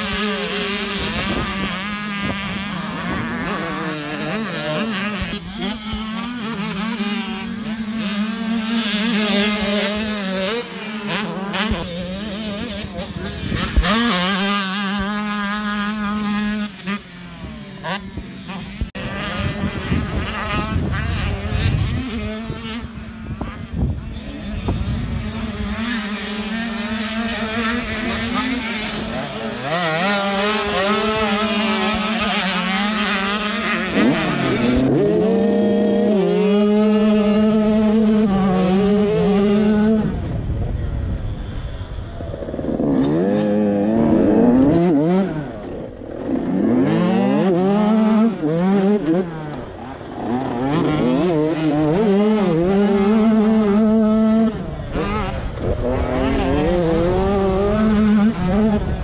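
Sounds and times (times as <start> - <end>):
two-stroke motorbike engine revving: 0.0 - 59.0.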